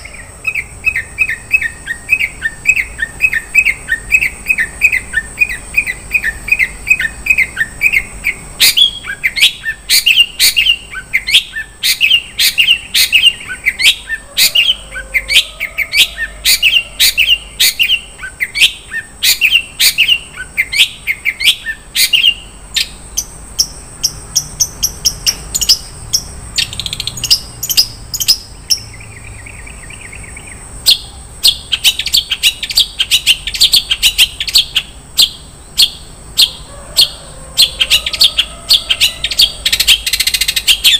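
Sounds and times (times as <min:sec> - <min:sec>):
shrike singing varied song: 0:00.0 - 0:40.9.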